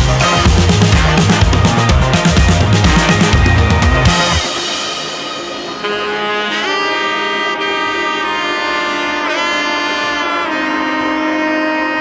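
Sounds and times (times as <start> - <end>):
background music with sliding lead melody: 0.0 - 12.0.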